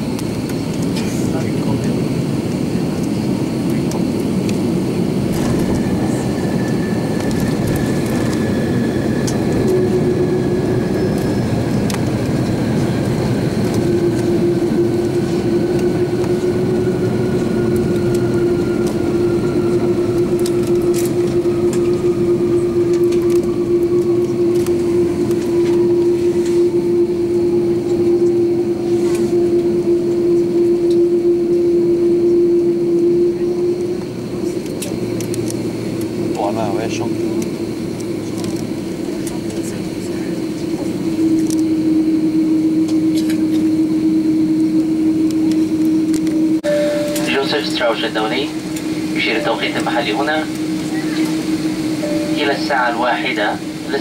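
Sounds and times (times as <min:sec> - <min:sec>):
jet engine rumble: 0:00.0 - 0:54.0
steady hum: 0:00.0 - 0:54.0
whine falling in pitch: 0:05.1 - 0:39.0, 0:39.9 - 0:54.0.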